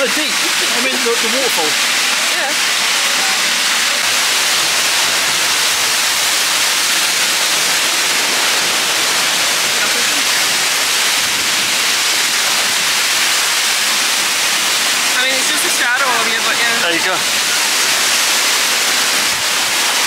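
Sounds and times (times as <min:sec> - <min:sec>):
waterfall crashing: 0:00.0 - 0:20.0.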